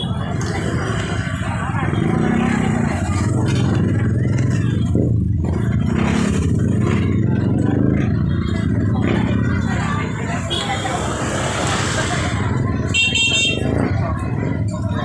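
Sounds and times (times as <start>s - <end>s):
low crowd rumble: 0.0s - 15.0s.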